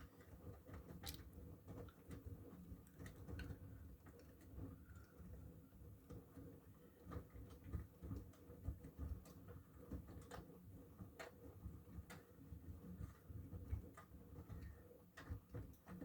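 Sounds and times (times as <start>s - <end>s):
light clicks and taps: 0.1s - 5.4s, 6.0s - 11.4s, 13.0s - 16.0s.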